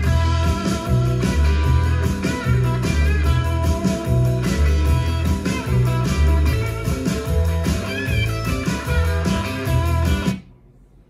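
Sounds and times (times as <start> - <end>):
rock music through speaker: 0.0 - 10.5.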